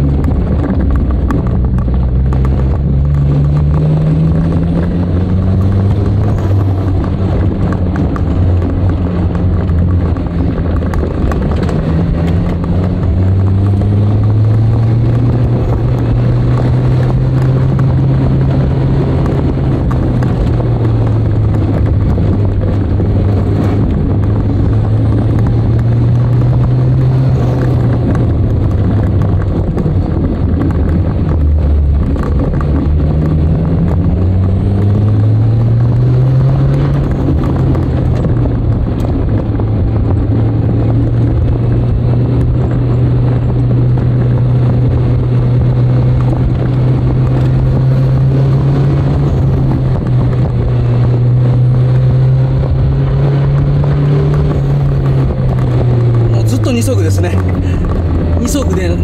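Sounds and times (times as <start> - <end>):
turbocharged car engine running: 0.0 - 59.0.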